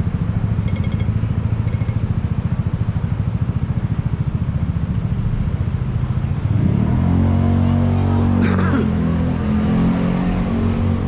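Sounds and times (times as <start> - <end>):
large engine idling and revving: 0.0 - 11.0.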